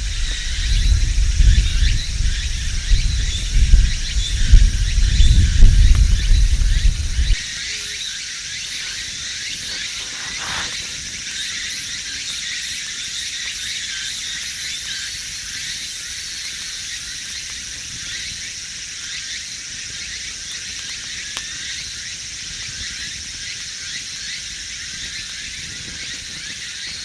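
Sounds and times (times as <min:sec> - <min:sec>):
insects trilling and chirping: 0:00.0 - 0:27.0.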